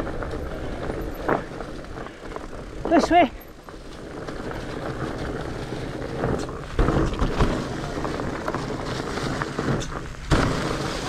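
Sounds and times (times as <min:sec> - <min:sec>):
bike thumping over bumps: 0:00.0 - 0:11.0
bike tyre and drivetrain rattle: 0:00.0 - 0:11.0.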